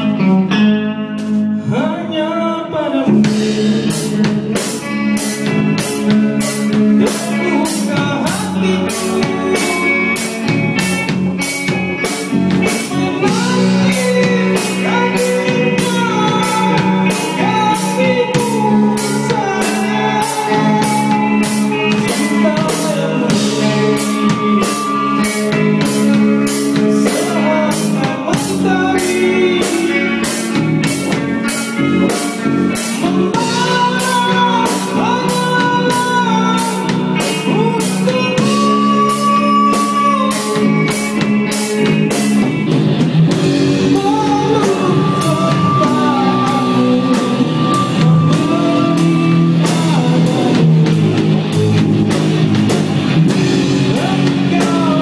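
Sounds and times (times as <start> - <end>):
drum kit: 0.0 - 1.8, 3.1 - 55.0
person singing: 0.0 - 42.7, 43.3 - 52.2, 53.3 - 55.0
electric guitar: 0.0 - 55.0.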